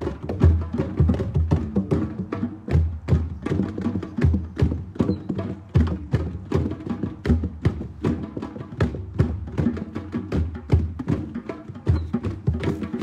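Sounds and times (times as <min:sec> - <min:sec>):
group hand drumming: 0:00.0 - 0:13.0.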